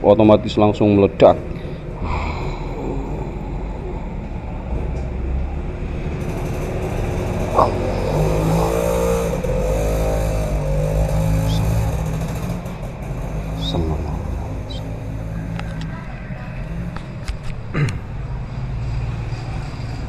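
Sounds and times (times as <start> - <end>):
steady low hum: 1.0 - 18.0
vehicle engine running: 2.8 - 19.9.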